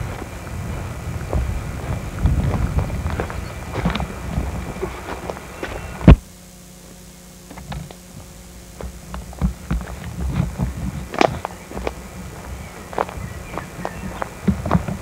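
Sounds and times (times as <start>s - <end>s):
footsteps on woodland path: 0.0s - 6.2s, 6.8s - 15.0s
steady low hum: 0.0s - 15.0s.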